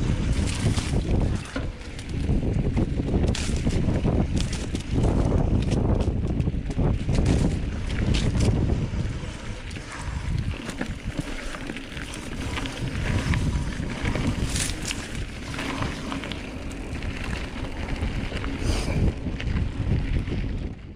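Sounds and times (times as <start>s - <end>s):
tyres rolling over dirt: 0.0s - 20.8s
bike rattling: 0.0s - 20.9s
wind buffeting microphone: 0.0s - 20.9s.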